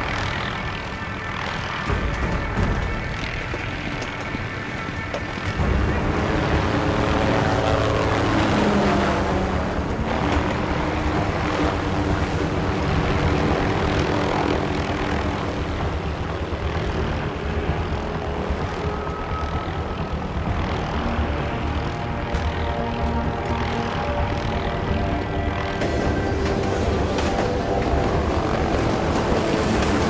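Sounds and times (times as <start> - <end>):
helicopter engine whine: 0.0 - 30.0
helicopter rotor chop: 0.0 - 30.0.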